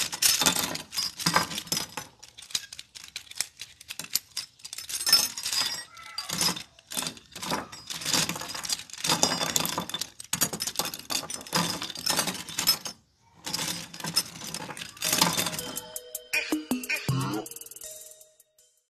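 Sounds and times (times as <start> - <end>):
metal hinges clinking and clattering: 0.0 - 15.9.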